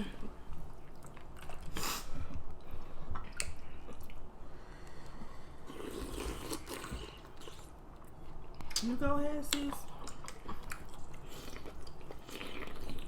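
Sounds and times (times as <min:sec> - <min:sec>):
close chewing and eating: 0:00.0 - 0:13.0.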